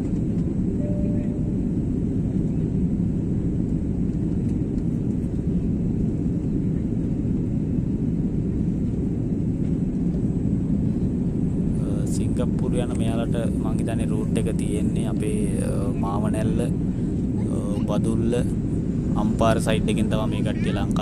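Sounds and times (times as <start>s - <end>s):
jet engine cabin rumble: 0.0s - 21.0s.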